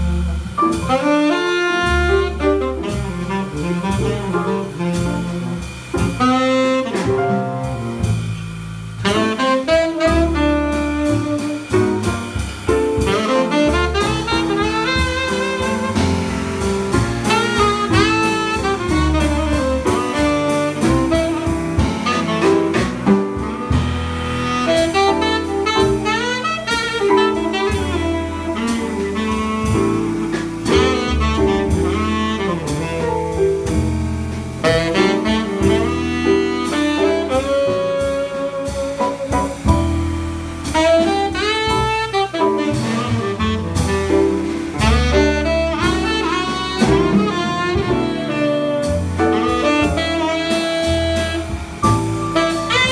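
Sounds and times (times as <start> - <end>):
tenor saxophone melody: 0.0 - 7.5, 9.0 - 11.7, 13.0 - 33.6, 34.6 - 52.9
piano chords: 0.0 - 52.9
soft drum kit: 0.0 - 52.9
walking double bass: 0.0 - 52.9.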